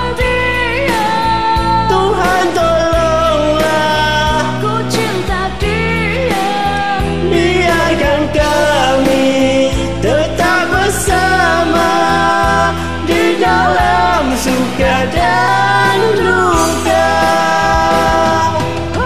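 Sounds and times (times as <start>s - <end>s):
pop ballad karaoke backing track: 0.0s - 19.0s.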